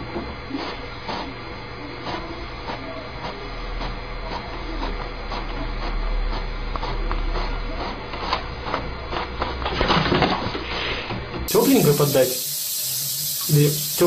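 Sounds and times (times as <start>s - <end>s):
printer humming: 0.0s - 9.8s, 11.4s - 14.0s.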